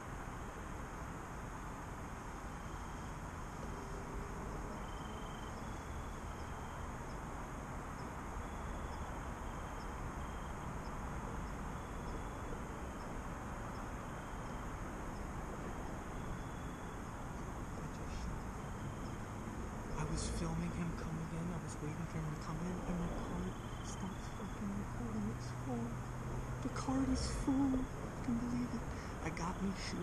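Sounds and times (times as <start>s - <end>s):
high insect chirps: 0.0s - 30.0s
steady hiss: 0.0s - 30.0s.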